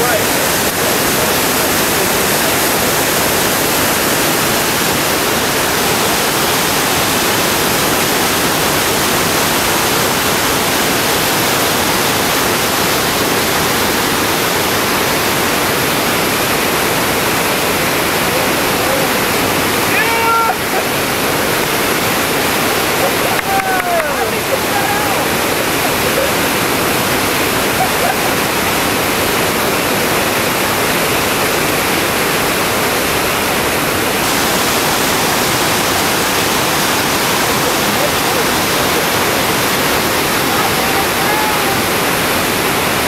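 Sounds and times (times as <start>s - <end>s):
whitewater rushing over rocks: 0.0s - 43.0s.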